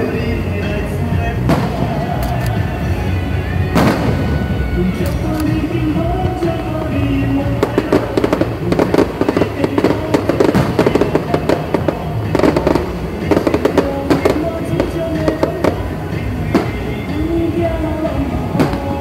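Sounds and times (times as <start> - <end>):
fireworks crackling and popping: 0.0 - 19.0
music with steady tune: 0.0 - 19.0.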